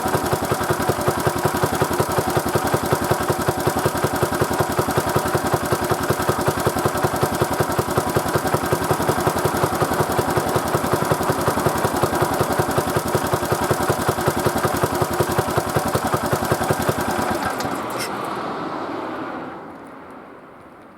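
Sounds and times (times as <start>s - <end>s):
engine running: 0.0s - 19.9s.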